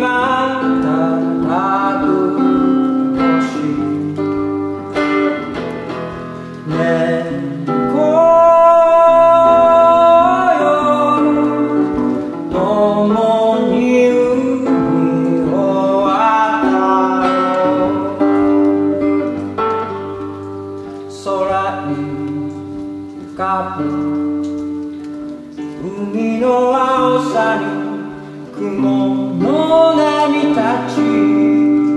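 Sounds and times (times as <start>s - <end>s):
man singing: 0.0s - 5.6s, 6.5s - 19.6s, 21.0s - 24.7s, 25.6s - 31.9s
acoustic guitar: 0.0s - 31.9s.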